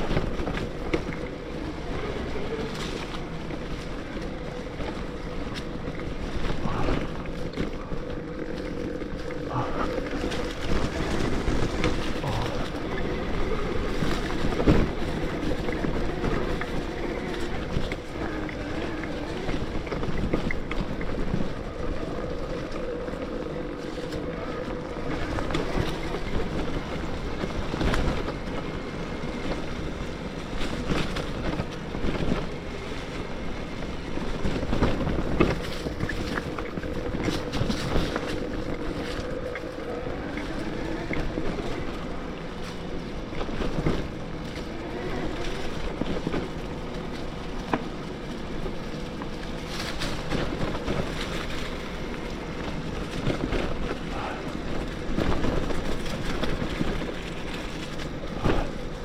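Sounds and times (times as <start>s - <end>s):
bike knocks and rattles: 0.0s - 59.0s
electric bike motor whining: 0.0s - 59.0s.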